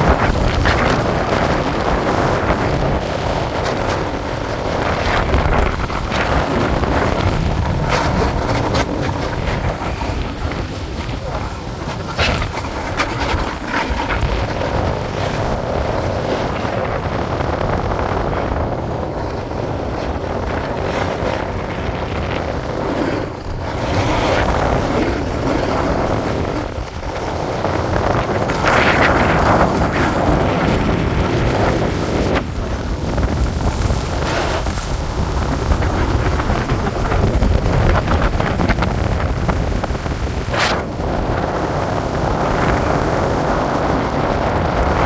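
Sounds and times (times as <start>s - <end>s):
skis scraping over snow: 0.0s - 45.0s
wind buffeting microphone: 0.0s - 45.0s.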